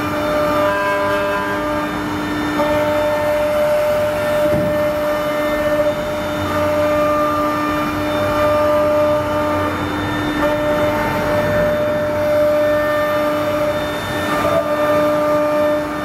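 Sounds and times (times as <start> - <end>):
router bit cutting wood: 0.0 - 16.0
router spindle whine: 0.0 - 16.0.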